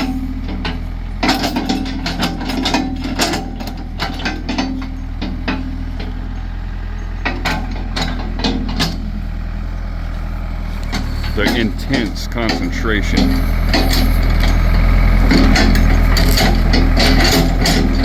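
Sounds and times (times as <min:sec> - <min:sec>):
backhoe engine running: 0:00.0 - 0:18.0
bucket and linkage clanking: 0:00.0 - 0:18.0.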